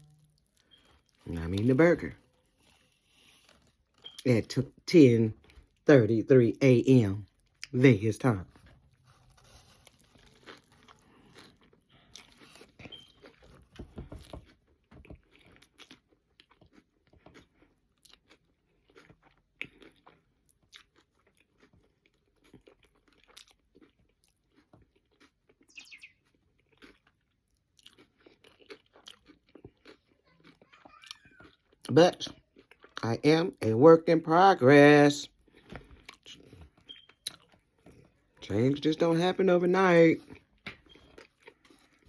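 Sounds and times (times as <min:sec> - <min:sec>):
person chewing crunchy food: 0:00.0 - 0:05.9, 0:06.9 - 0:33.2, 0:35.2 - 0:42.0.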